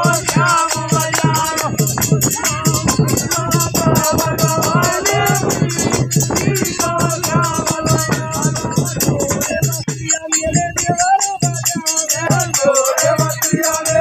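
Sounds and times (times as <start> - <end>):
jingling rattle percussion: 0.0 - 14.0
steady drum beat: 0.0 - 14.0.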